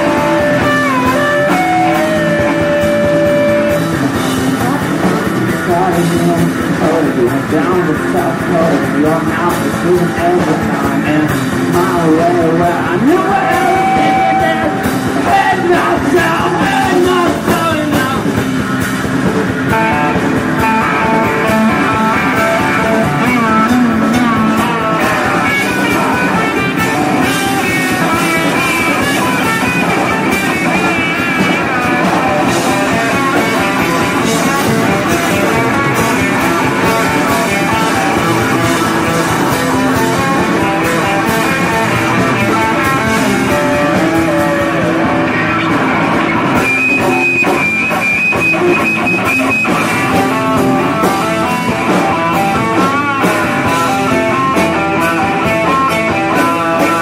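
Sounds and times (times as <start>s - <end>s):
bass: 0.0s - 57.0s
drums: 0.0s - 57.0s
electric guitar: 0.0s - 57.0s.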